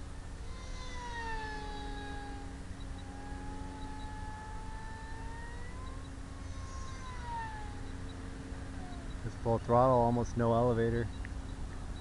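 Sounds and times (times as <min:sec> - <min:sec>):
model plane motor whining: 0:00.0 - 0:10.0.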